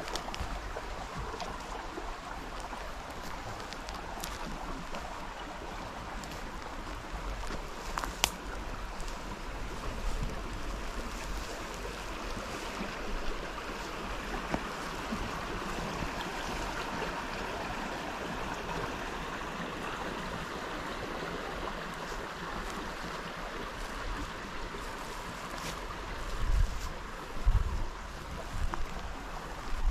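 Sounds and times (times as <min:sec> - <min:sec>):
river water rushing: 0:00.0 - 0:29.9.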